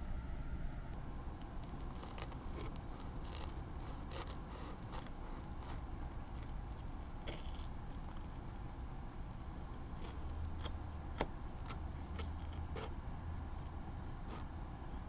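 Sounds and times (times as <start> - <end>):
knife sawing through toasted crust: 1.7 - 14.5.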